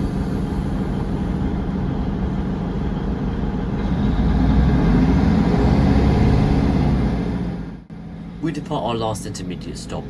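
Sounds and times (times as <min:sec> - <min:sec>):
train diesel engine rumble: 0:00.0 - 0:10.0.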